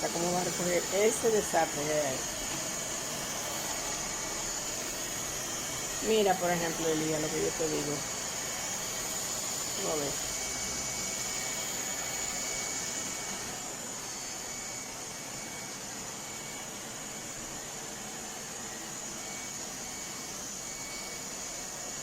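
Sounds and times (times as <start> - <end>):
robot vacuum running: 0.0 - 22.0.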